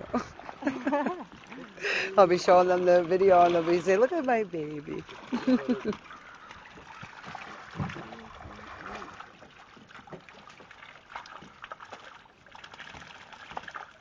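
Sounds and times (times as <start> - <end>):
water sloshing against boat: 0.0 - 14.0.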